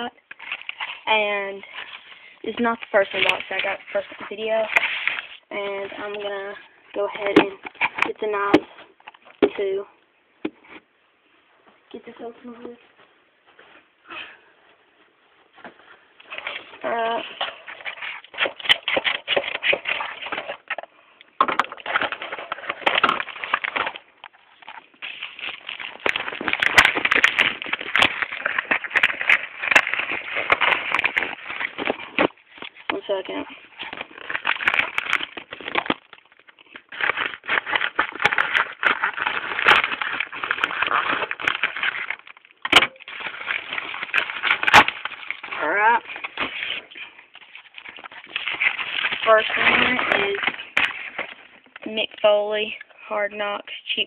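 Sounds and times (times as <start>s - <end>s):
cardboard and tape scraping: 0.0s - 8.8s, 16.2s - 52.4s
packaging crinkling and crackling: 0.0s - 9.8s, 16.2s - 53.0s.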